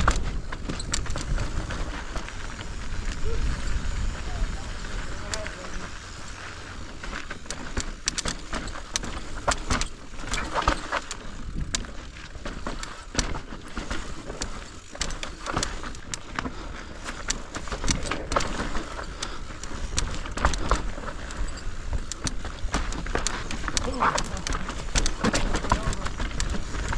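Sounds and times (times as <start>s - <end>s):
bike knocks and rattles: 0.0s - 26.9s.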